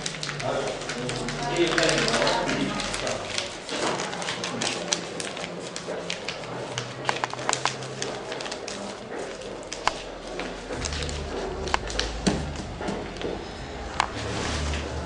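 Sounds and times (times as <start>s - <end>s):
foil packets crinkling open: 0.0s - 12.3s.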